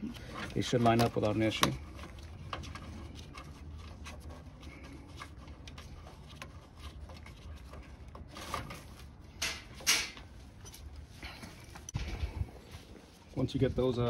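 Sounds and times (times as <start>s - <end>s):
scraping rustles: 0.0s - 14.0s.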